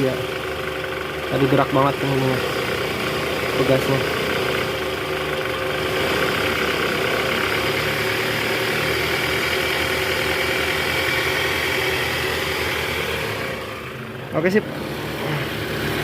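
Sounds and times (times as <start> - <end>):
car engine running at low revs: 0.0 - 16.0.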